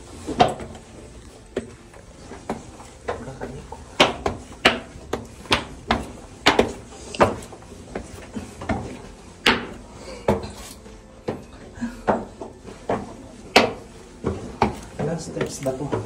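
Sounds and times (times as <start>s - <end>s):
footsteps echoing on stairs: 0.0s - 16.0s.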